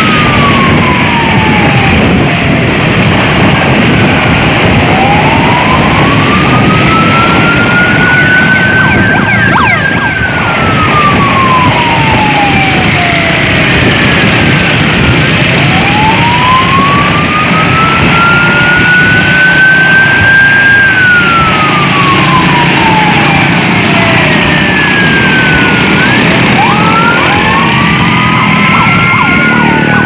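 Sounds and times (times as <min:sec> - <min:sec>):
emergency vehicle siren wailing: 0:00.0 - 0:30.0
loud steady rushing noise: 0:00.0 - 0:30.0.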